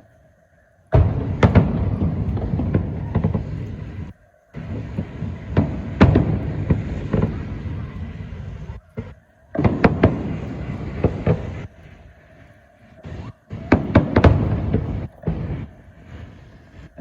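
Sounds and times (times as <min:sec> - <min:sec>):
fireworks bangs: 0:00.9 - 0:17.0.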